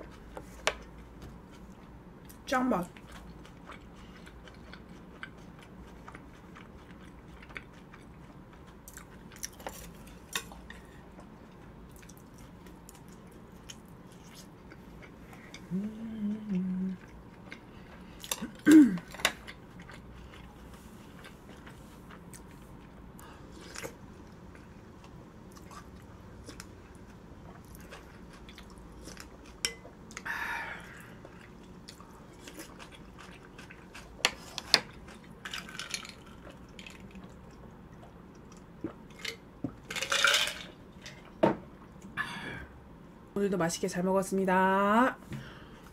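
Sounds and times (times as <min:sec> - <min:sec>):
person chewing and eating: 0:00.0 - 0:39.8.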